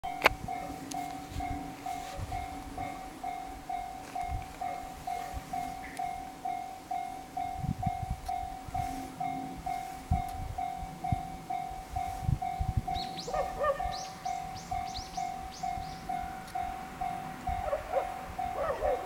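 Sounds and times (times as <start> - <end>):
level crossing bell ringing: 0.0 - 13.2, 14.2 - 19.0.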